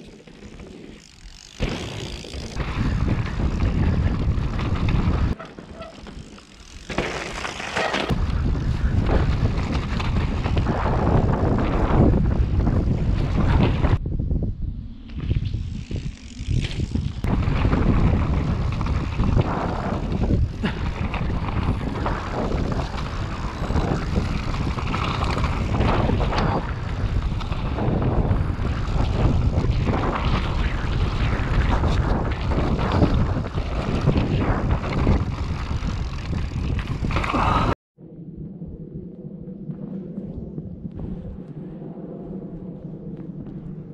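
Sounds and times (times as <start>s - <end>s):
bike tyres rumbling over dirt: 0.0s - 37.8s
wind on microphone: 2.0s - 5.4s, 8.1s - 43.9s.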